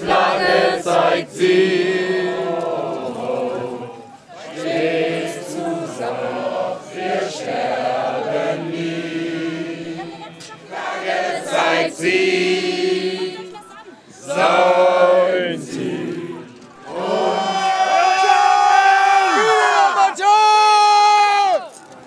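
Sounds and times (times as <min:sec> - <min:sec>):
crowd chanting in unison: 0:00.0 - 0:20.2.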